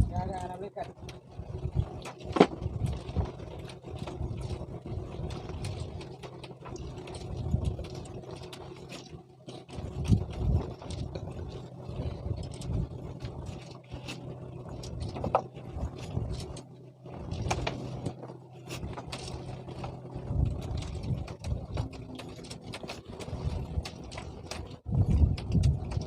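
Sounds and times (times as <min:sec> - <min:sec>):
small engine humming: 0:00.0 - 0:26.0.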